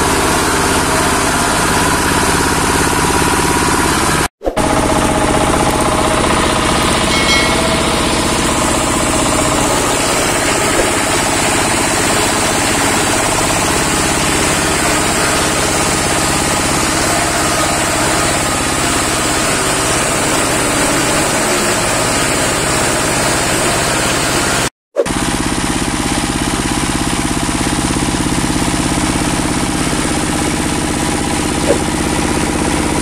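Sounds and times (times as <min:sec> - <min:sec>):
diesel engine running: 0:00.0 - 0:33.0
wood grinder grinding wood: 0:00.0 - 0:33.0.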